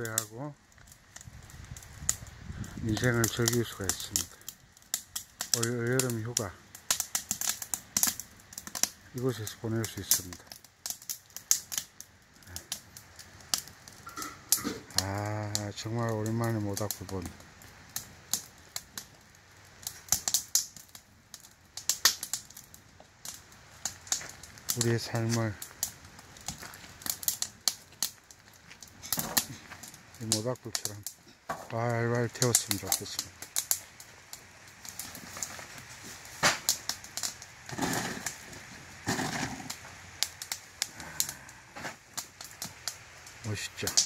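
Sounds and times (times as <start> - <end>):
burning wood popping: 0.0 - 44.0
campfire crackling: 0.0 - 44.0.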